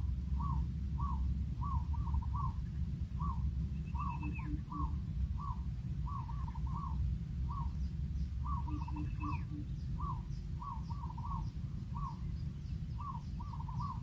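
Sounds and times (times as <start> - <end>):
bird calling: 0.0 - 14.0
steady low rumble: 0.0 - 14.0.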